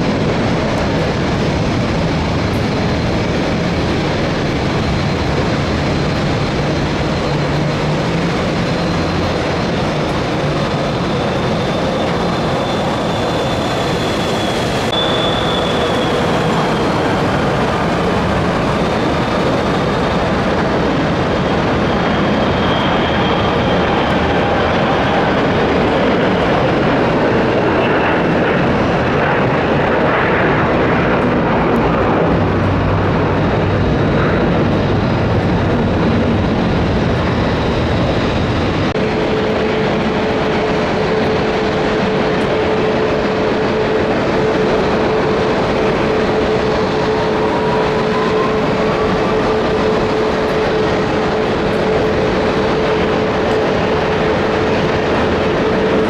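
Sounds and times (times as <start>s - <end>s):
jet engine whine: 0.0s - 56.0s
jet engines at take-off power: 0.0s - 56.0s.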